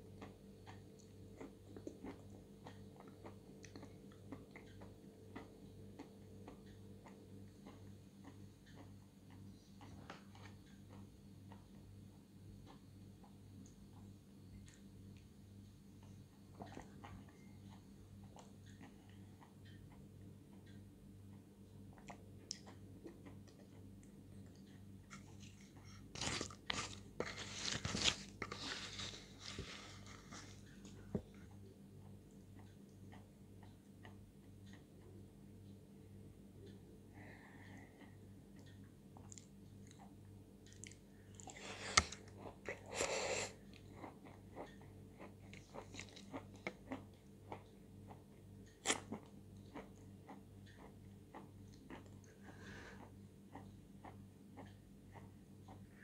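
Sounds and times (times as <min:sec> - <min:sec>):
faint chewing clicks: 0:00.0 - 0:56.0.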